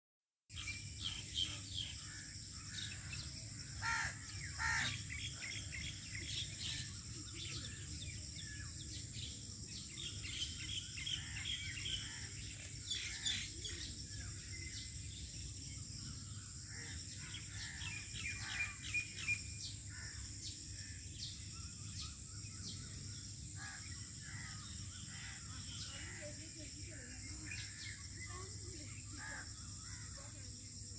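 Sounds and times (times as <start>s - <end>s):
birds chirping and calling: 0.5s - 30.9s.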